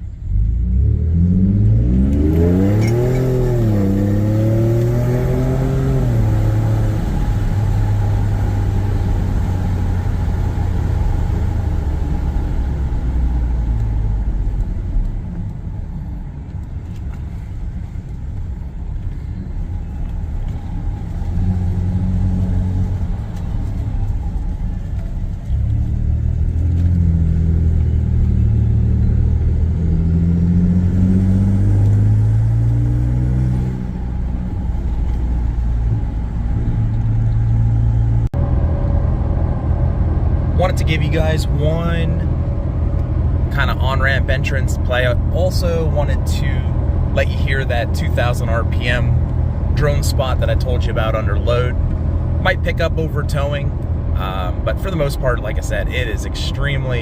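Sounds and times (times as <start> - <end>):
truck engine accelerating: 0.0 - 57.0.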